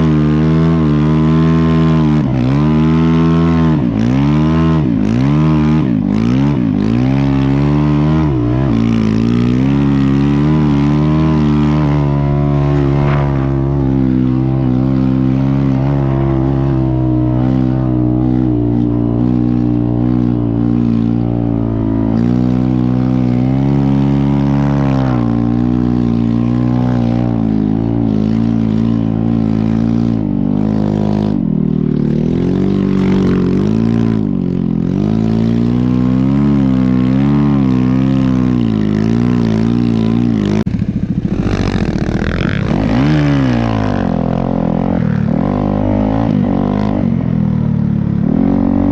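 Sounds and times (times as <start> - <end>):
motorcycle engine revving under load: 0.0 - 48.9.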